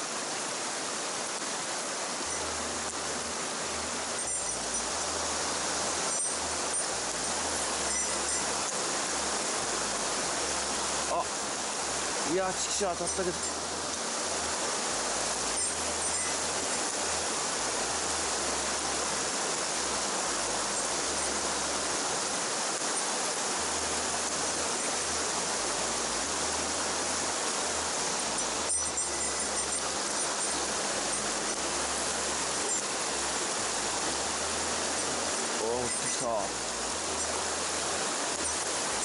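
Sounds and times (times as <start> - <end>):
stream water rushing over rocks: 0.0 - 39.0.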